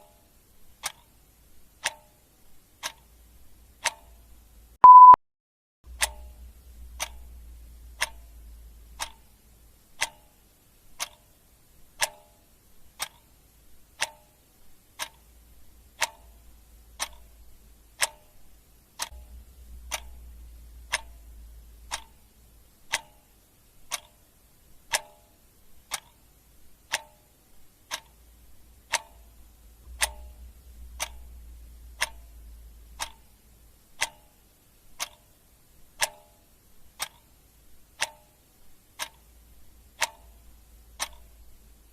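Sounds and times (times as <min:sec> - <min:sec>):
clock ticking: 0:00.0 - 0:05.2, 0:05.9 - 0:41.9.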